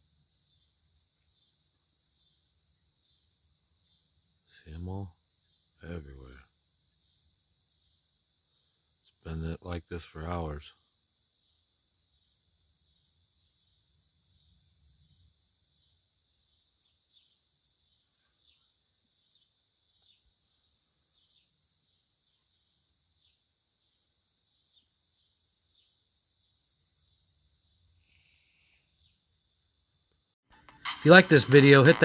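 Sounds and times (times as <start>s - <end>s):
high insect drone: 0.0s - 30.3s.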